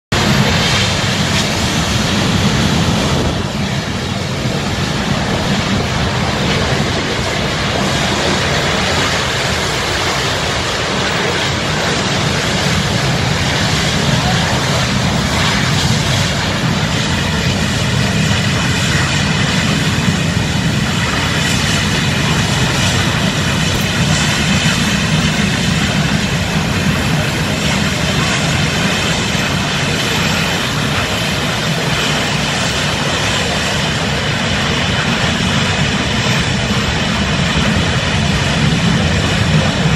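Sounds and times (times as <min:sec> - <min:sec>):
gas flame jet roaring: 0:00.1 - 0:39.9.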